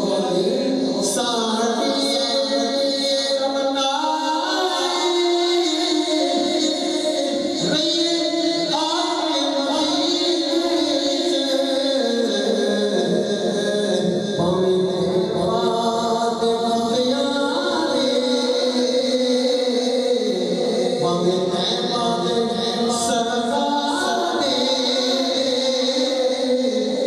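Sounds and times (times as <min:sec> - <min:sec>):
voices chanting together: 0:04.0 - 0:27.0.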